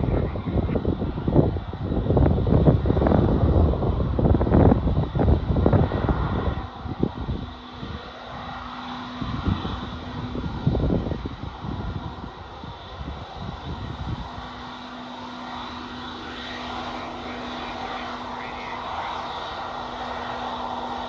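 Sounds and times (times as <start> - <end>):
jet engine rumble: 0.0 - 21.0.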